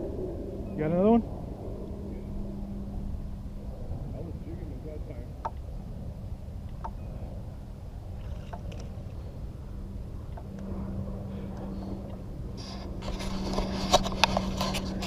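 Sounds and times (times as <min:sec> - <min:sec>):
low hum: 0:00.0 - 0:15.0
wind rumble on microphone: 0:00.0 - 0:15.0.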